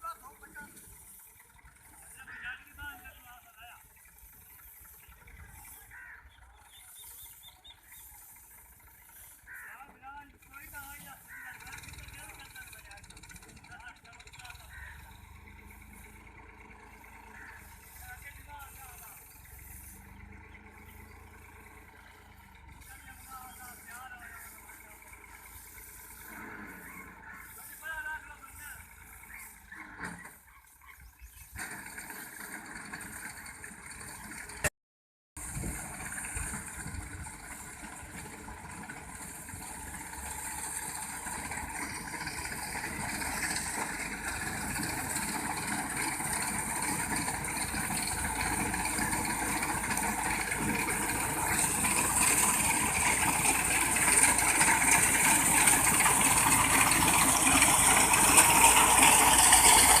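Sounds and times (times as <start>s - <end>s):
diesel tractor engine running: 0.0s - 34.7s, 35.4s - 60.0s.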